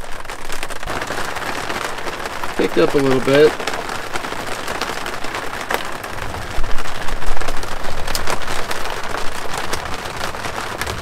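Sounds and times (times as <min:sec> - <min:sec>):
heavy rain drumming on a roof: 0:00.0 - 0:11.0.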